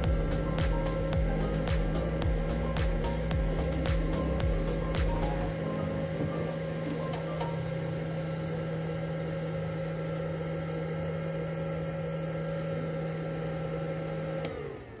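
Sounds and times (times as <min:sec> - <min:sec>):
electrical machine humming and whining: 0:00.0 - 0:15.0.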